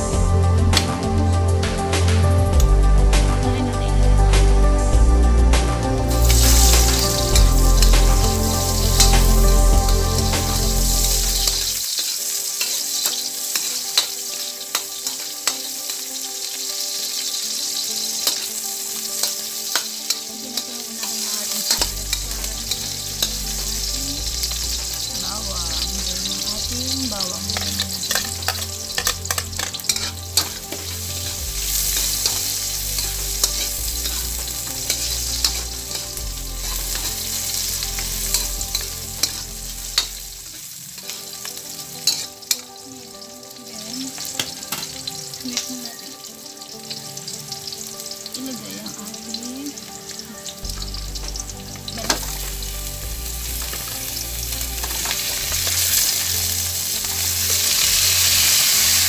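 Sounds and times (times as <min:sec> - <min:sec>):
utensil scraping metal wok: 0:05.6 - 0:46.0, 0:46.8 - 0:59.0
onions sizzling in hot oil: 0:05.7 - 0:59.0.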